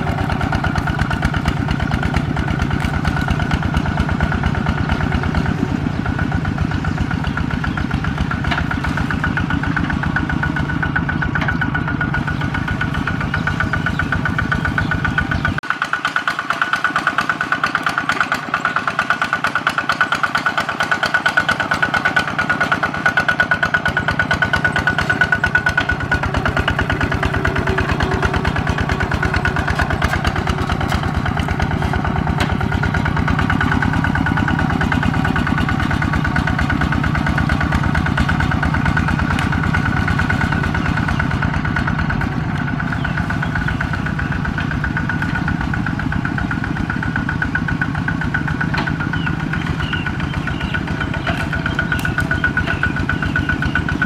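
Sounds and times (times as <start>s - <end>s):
diesel tractor engine chugging: 0.0s - 54.0s.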